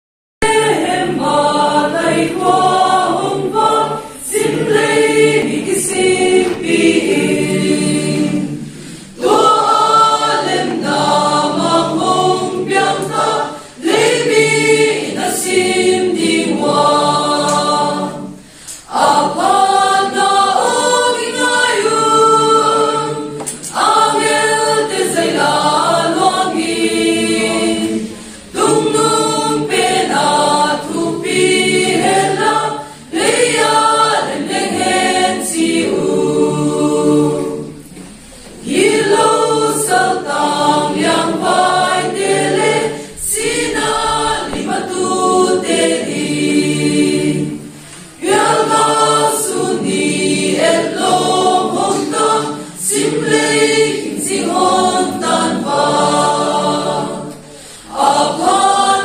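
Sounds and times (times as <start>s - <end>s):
choir singing a hymn: 0.4s - 59.0s.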